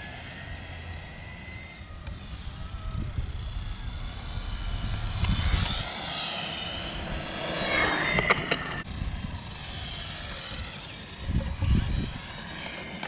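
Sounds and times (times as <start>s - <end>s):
electric toy car motors whining: 0.0s - 13.0s.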